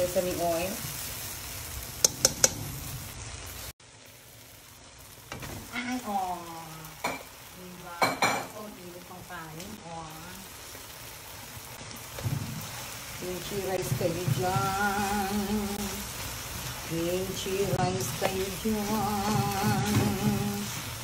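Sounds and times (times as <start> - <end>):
food sizzling in wok: 0.0 - 21.0.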